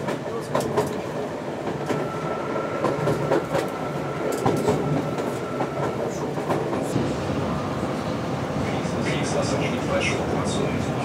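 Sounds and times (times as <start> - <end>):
train rumble heard aboard: 0.0 - 11.0.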